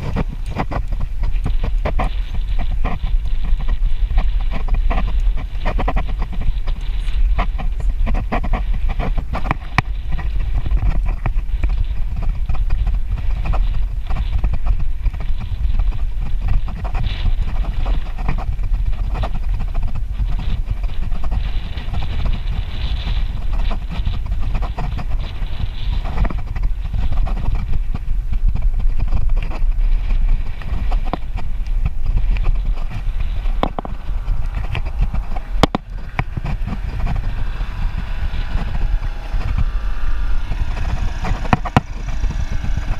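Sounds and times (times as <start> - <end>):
bicycle rattling and clicking: 0.0 - 42.9
wind buffeting microphone: 0.0 - 42.9.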